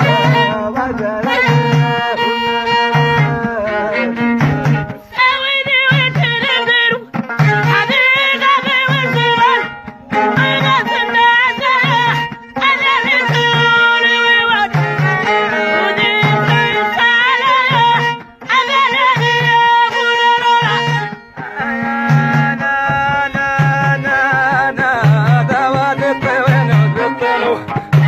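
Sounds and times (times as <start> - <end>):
frame drums beating: 0.0 - 28.0
person singing: 0.0 - 28.0
violin melody: 0.0 - 28.0.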